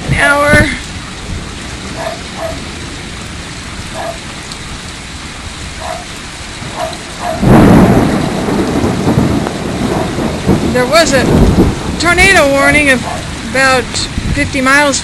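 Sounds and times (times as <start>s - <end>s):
heavy rain pouring: 0.0s - 15.0s
thunder rumbling: 0.0s - 15.0s.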